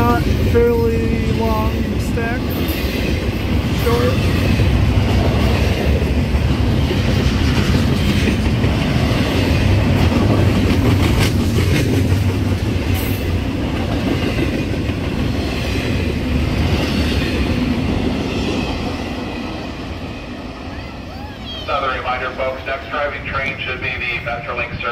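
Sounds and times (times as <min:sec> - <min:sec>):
steel wheels rumbling on rail: 0:00.0 - 0:24.9.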